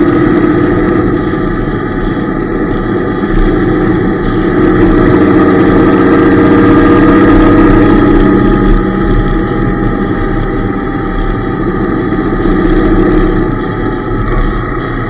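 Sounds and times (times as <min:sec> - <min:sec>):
motorcycle engine running: 0:00.0 - 0:15.0
motorcycles ahead: 0:00.0 - 0:15.0.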